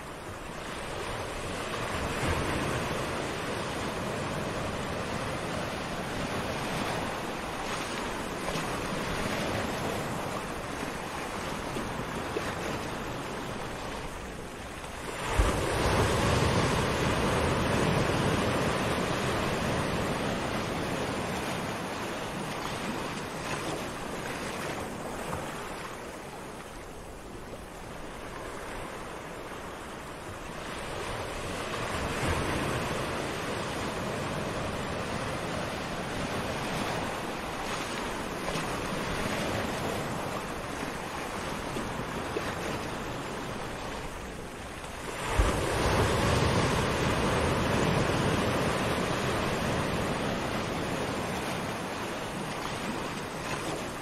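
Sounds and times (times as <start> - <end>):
waves washing on sandy shore: 0.0 - 54.0.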